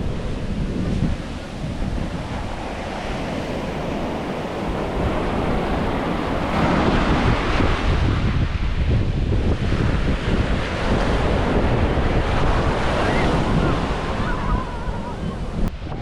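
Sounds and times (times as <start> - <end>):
ocean surf washing onto beach: 0.0 - 16.0
wind rumbling on microphone: 0.0 - 16.0.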